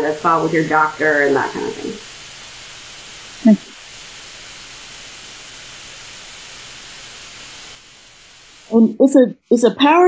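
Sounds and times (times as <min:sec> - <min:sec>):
open microphone hiss: 0:00.0 - 0:10.0.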